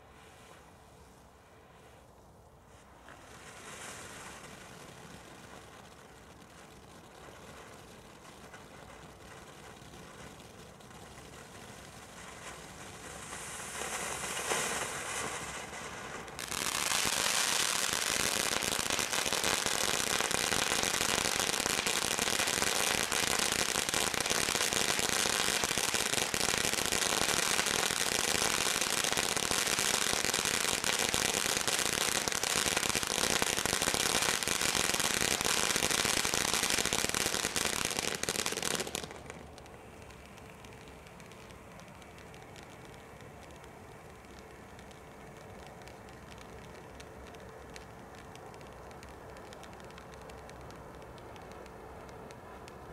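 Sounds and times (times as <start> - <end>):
firework fountain hissing and crackling: 0.0 - 52.9.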